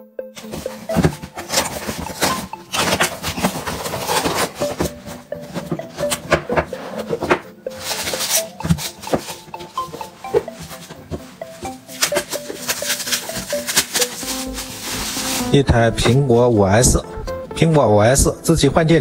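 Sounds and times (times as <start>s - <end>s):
faint background music: 0.0s - 19.0s
cardboard and styrofoam rustling: 0.4s - 17.0s.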